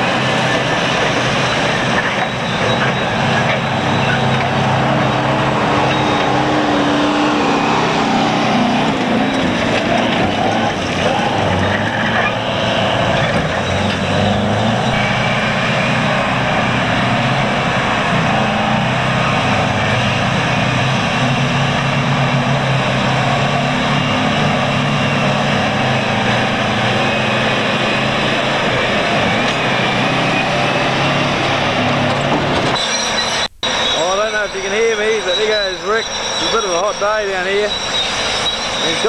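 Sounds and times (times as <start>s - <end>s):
heavy diesel engine under load: 0.0s - 39.0s.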